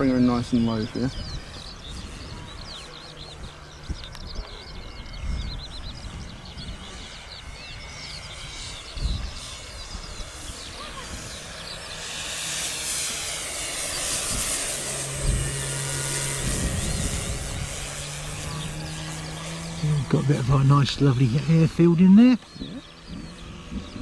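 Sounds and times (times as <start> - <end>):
model aeroplane motor and propeller: 0.0 - 24.0
small birds chirping: 0.0 - 24.0.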